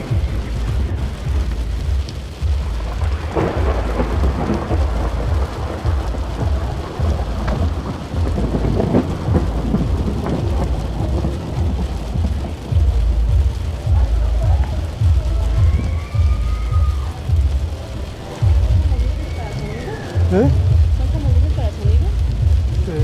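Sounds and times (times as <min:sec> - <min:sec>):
heavy rain falling: 0:00.0 - 0:23.0
low fluctuating rumble: 0:00.0 - 0:23.0.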